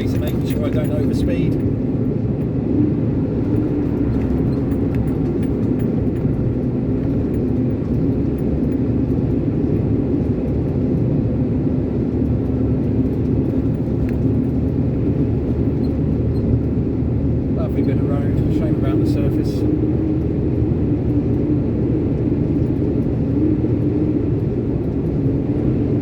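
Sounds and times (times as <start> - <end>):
lorry engine drone: 0.0 - 26.0
tyre and road noise: 0.0 - 26.0.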